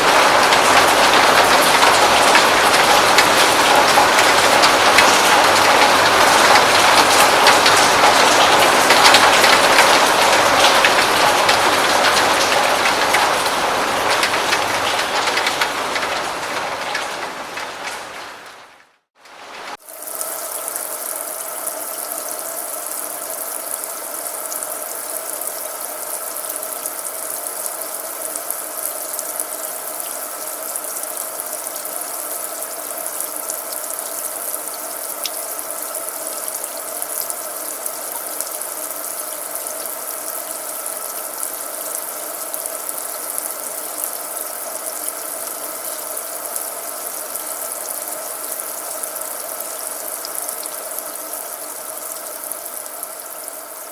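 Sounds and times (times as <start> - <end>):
rain falling steadily: 0.0 - 53.9.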